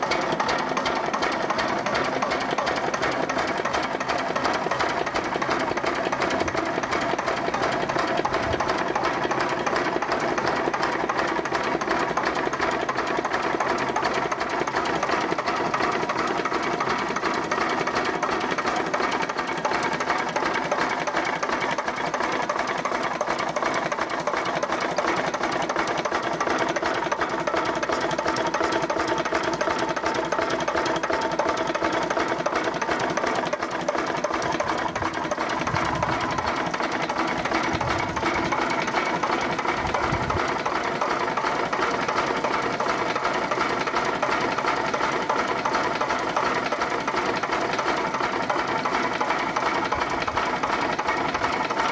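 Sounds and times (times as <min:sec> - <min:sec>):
diesel engine clattering: 0:00.0 - 0:51.9.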